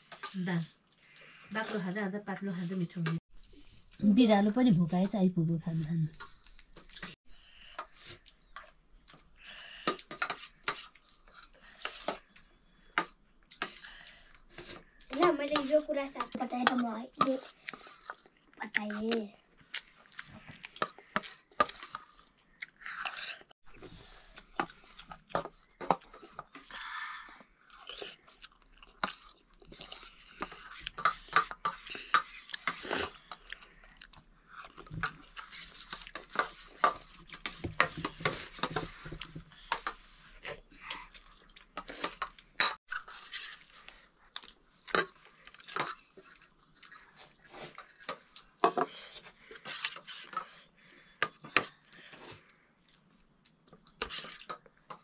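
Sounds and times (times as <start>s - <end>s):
people chewing food: 0.0s - 4.7s, 5.6s - 55.0s.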